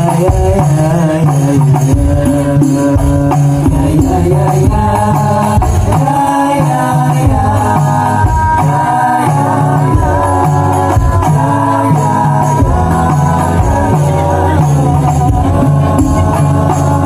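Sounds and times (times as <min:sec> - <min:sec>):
frame drums beating: 0:00.0 - 0:17.0
sung melody: 0:00.0 - 0:17.0.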